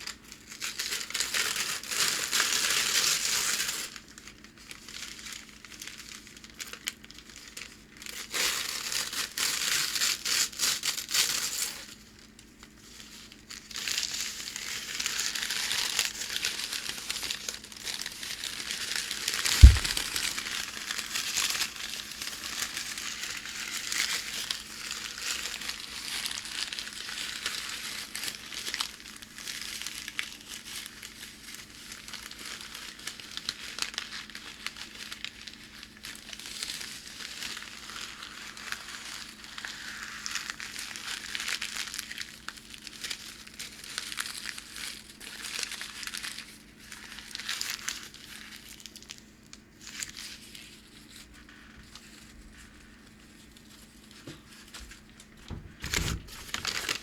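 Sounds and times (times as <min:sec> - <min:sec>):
packing paper crinkling: 0:00.0 - 0:12.0, 0:12.7 - 0:57.0.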